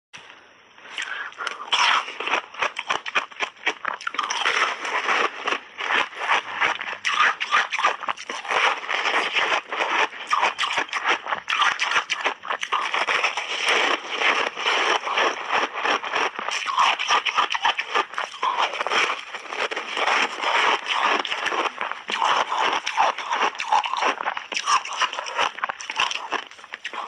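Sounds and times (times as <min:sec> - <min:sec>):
ice being crunched and chewed: 0:00.8 - 0:27.0.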